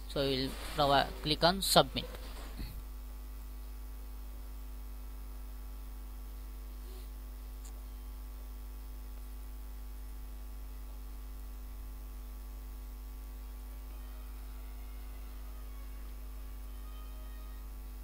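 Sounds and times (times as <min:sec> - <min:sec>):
low electrical mains hum: 0:00.0 - 0:18.0.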